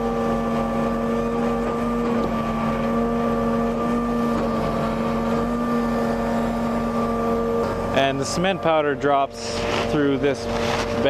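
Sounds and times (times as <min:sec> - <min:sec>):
mixer truck engine hum: 0:00.0 - 0:11.0.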